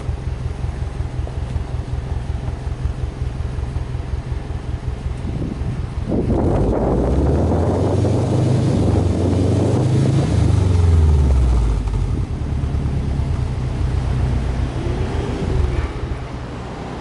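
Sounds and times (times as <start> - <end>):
car exhaust engine revving and idling: 0.0 - 17.0.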